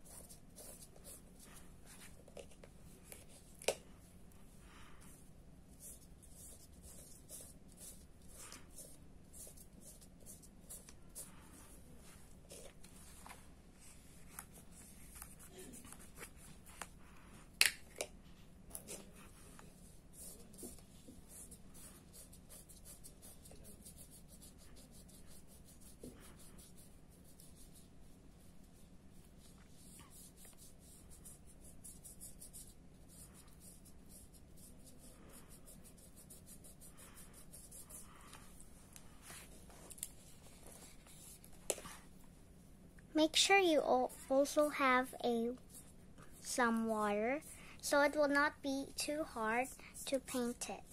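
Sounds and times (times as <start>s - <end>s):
paintbrush scratching on paper: 0.0s - 17.5s, 18.7s - 42.1s, 43.7s - 50.9s.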